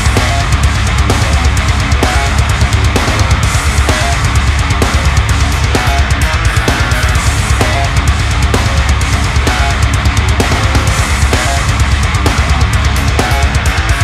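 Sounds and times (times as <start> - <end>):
heavy rock music with drum beat: 0.0 - 14.0.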